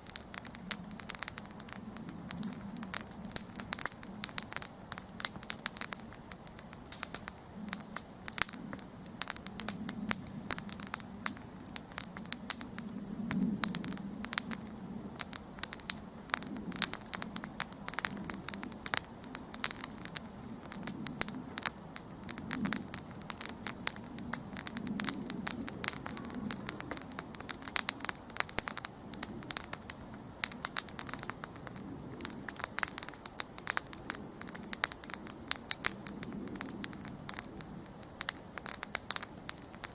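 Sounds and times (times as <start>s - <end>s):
campfire crackling: 0.0s - 39.9s
low rumble of flames: 0.0s - 39.9s.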